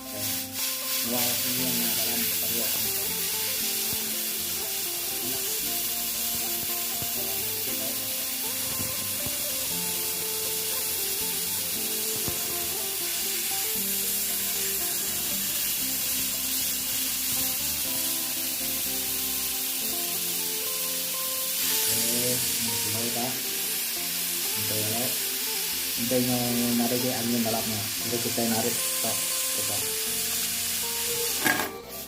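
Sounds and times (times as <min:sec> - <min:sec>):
background music with held notes: 0:00.0 - 0:32.0
pot of food hissing: 0:00.0 - 0:32.0.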